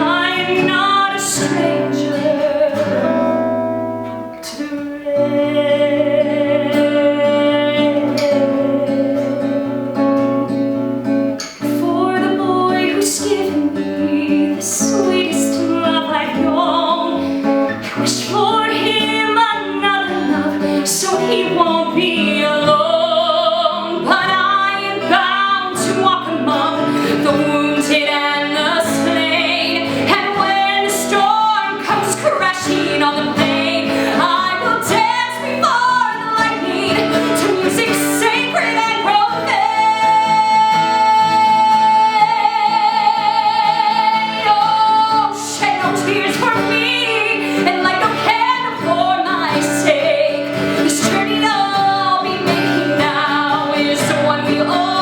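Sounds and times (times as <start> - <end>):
acoustic guitar: 0.0 - 55.0
woman singing: 0.0 - 55.0.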